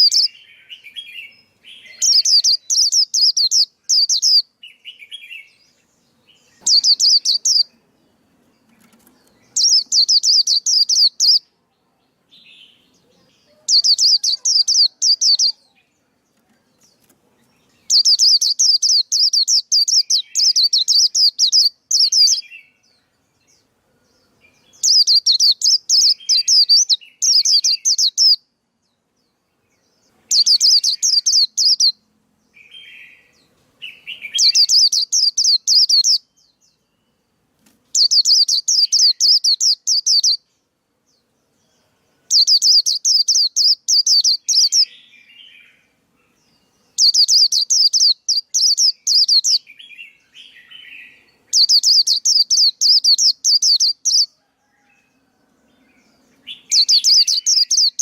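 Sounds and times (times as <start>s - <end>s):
bird twittering trills: 0.0s - 11.5s, 12.3s - 37.3s, 37.9s - 55.2s, 55.9s - 58.0s
soft low bird chirps: 0.0s - 55.3s, 55.9s - 58.0s.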